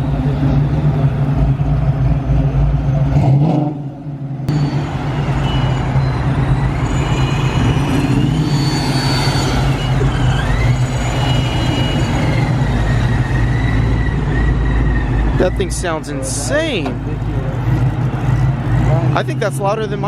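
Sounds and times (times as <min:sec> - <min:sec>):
loud car engine whining: 0:00.0 - 0:20.0.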